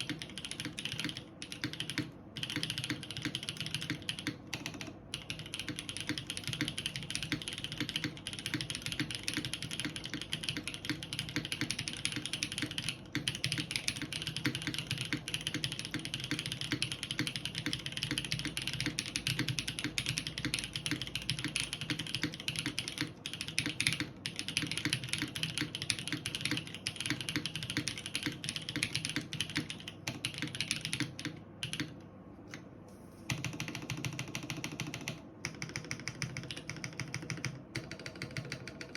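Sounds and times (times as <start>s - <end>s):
mechanical keyboard typing: 0.0s - 32.7s, 33.3s - 38.9s.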